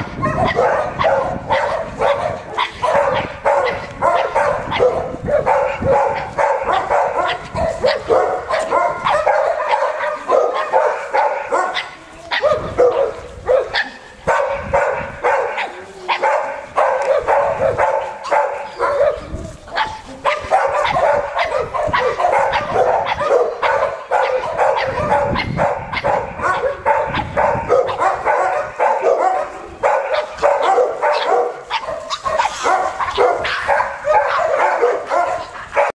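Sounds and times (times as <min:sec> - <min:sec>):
dogs barking: 0:00.0 - 0:36.0.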